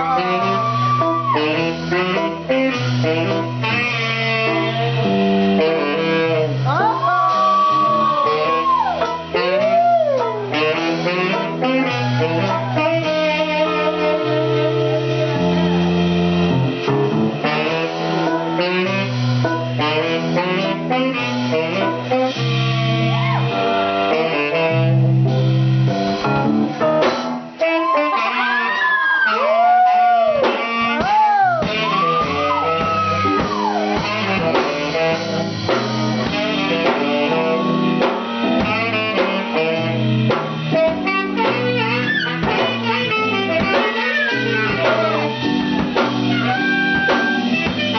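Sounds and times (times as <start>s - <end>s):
lead line with bending notes: 0.0s - 28.4s, 29.4s - 47.9s
bluesy jazz instrumental music: 0.0s - 47.9s.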